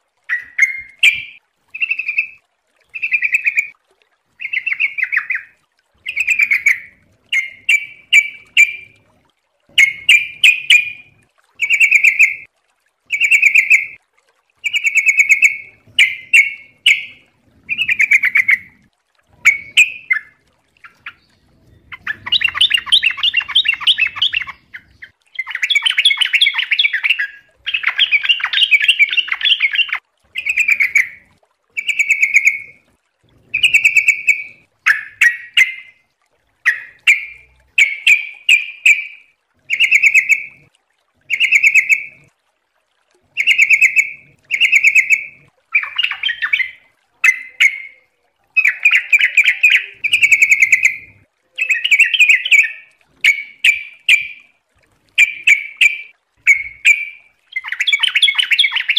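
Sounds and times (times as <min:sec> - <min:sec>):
bulbul singing: 0:00.3 - 0:03.7, 0:04.4 - 0:09.1, 0:09.7 - 0:12.5, 0:13.1 - 0:14.0, 0:14.6 - 0:36.0, 0:36.6 - 0:40.7, 0:41.3 - 0:42.3, 0:43.4 - 0:54.5, 0:55.1 - 0:58.9.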